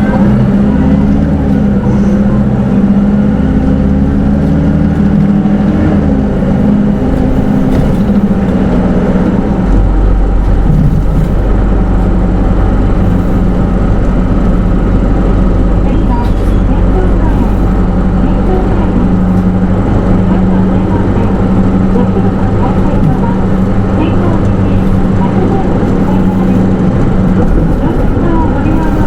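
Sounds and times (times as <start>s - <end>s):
bus engine inside cabin: 0.0s - 29.0s.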